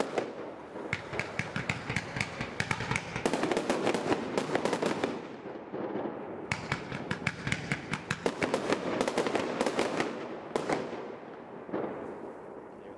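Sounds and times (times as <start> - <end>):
fireworks bangs and cracks: 0.0 - 12.7.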